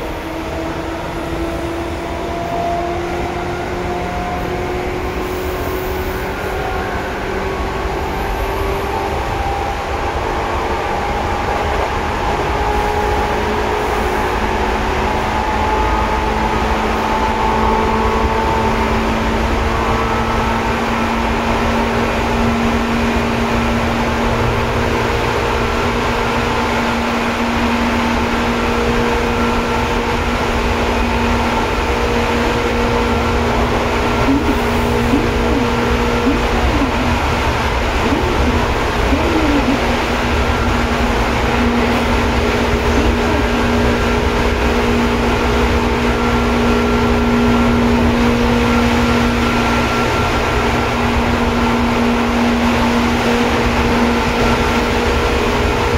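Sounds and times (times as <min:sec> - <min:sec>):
train motor whine rising in pitch: 0:00.0 - 0:55.9
wheels rumbling on rail: 0:00.0 - 0:55.9.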